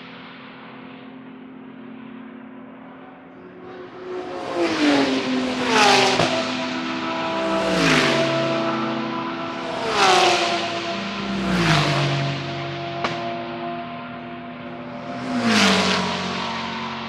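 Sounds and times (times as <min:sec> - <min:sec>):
race cars passing at speed: 0:00.6 - 0:17.0.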